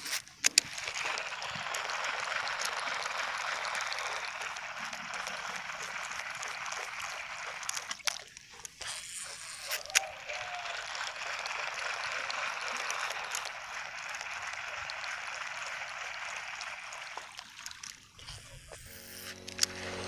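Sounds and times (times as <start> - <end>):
flowing water rushing: 0.5 - 20.0.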